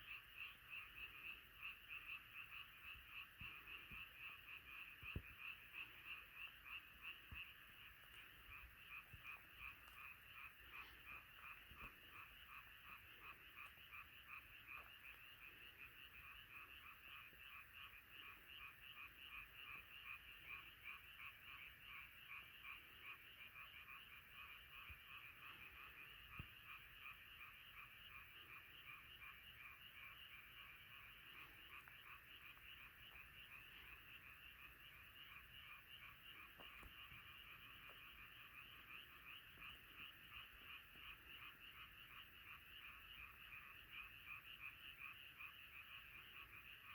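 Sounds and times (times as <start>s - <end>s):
frogs croaking in chorus: 0.0s - 46.9s.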